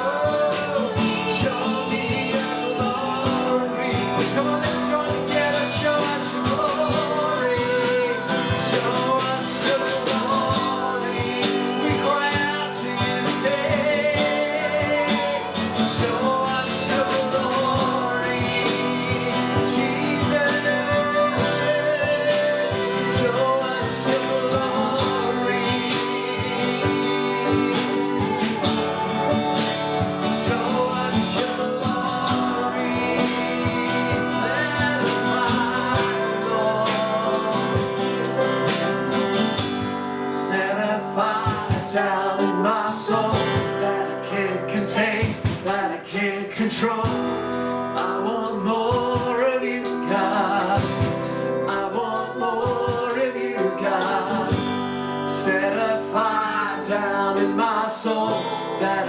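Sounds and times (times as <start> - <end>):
band with guitar playing: 0.0 - 59.0
person singing: 0.0 - 59.0.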